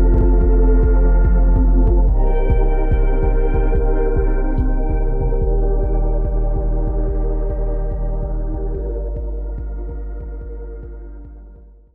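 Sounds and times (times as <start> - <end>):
keyboard chords over low beat: 0.0 - 11.9.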